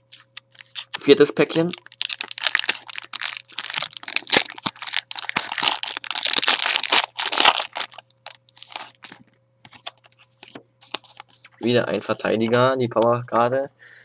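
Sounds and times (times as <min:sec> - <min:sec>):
foil wrapper crinkling and tearing: 0:00.0 - 0:11.5.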